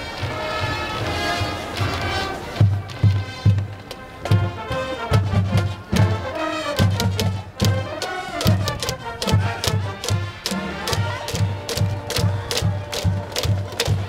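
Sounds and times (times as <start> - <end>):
crowd melody: 0.0 - 14.0
drum steady beat: 0.2 - 14.0.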